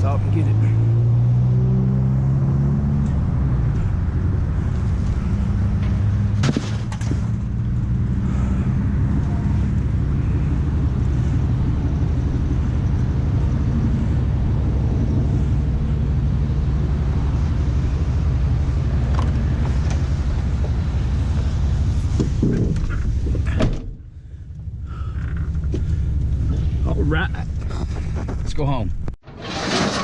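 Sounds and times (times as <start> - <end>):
truck engine running: 3.0 - 29.1.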